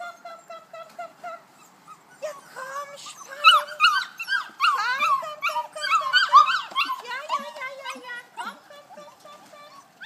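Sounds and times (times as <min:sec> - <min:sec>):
puppies whining and squeaking: 0:00.0 - 0:10.0
puppy yelps: 0:01.6 - 0:10.0.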